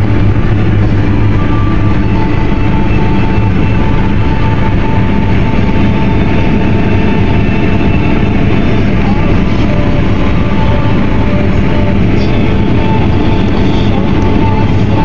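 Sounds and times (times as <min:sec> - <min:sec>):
combine harvester drone: 0:00.0 - 0:15.0
faint steady whine: 0:00.0 - 0:15.0.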